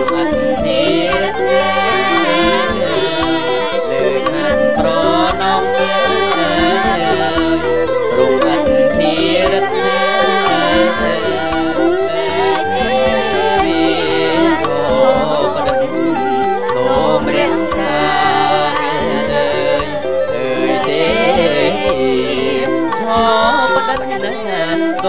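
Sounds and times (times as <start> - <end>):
steady drum beat: 0.0 - 24.3
bamboo flute melody: 0.0 - 25.0
keyboard: 0.0 - 25.0
two-string fiddle: 0.0 - 25.0.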